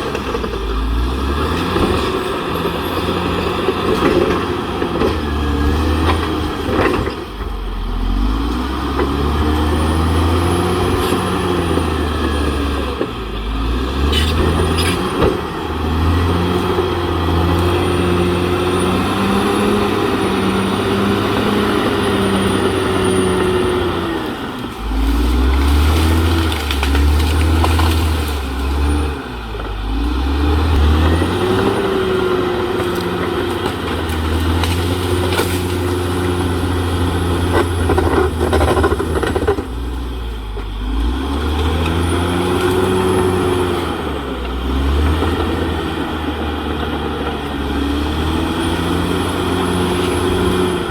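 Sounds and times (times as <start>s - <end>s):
bulldozer diesel engine lugging: 0.0s - 50.9s.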